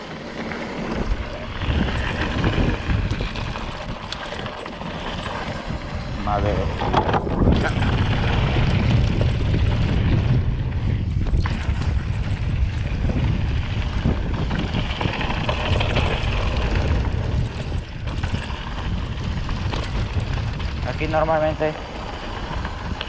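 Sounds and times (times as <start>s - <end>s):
bike rattling over bumps: 0.0s - 23.0s
tyre noise on dirt: 0.0s - 23.0s
wind rumble on microphone: 0.0s - 23.0s.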